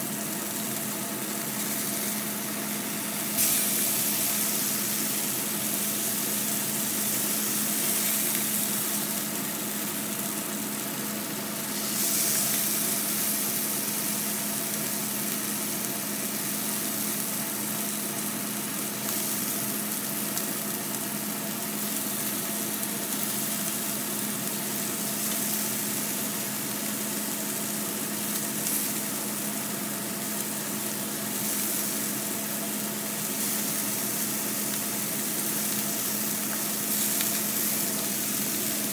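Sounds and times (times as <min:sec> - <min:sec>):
steak sizzling in a frying pan: 0:00.0 - 0:38.9.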